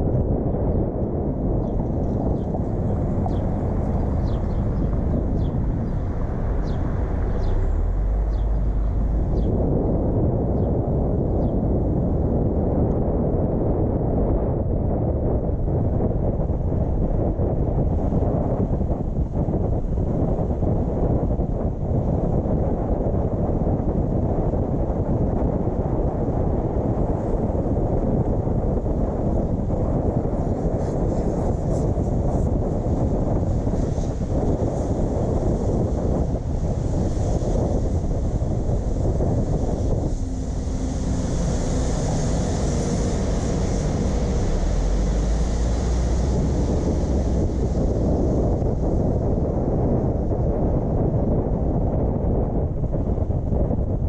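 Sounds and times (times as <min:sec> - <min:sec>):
car driving rumble: 0:00.0 - 0:53.7
wind buffeting microphone: 0:00.0 - 0:54.0.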